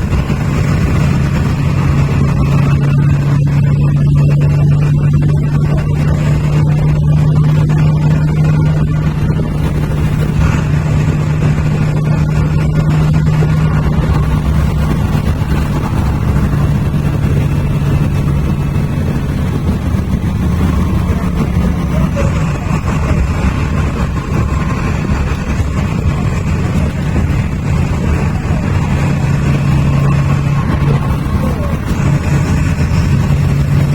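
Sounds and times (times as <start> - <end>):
bus engine running: 0.0 - 33.9.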